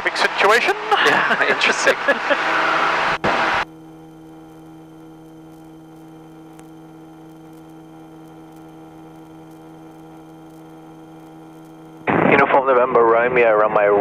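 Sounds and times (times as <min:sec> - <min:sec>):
faint electrical hum: 0:00.4 - 0:13.2.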